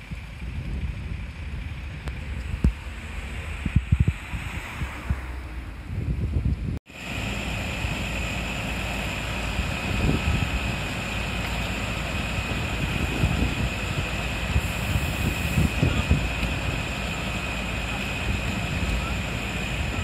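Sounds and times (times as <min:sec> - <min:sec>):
wind buffeting microphone: 0:00.0 - 0:06.8, 0:09.2 - 0:20.0
fire engine running: 0:00.0 - 0:20.0
steady high whine: 0:00.0 - 0:20.0.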